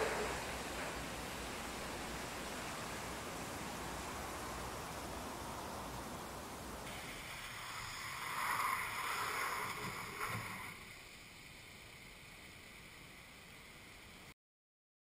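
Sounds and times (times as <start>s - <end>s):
truck tyres hissing through water: 0.0s - 14.4s.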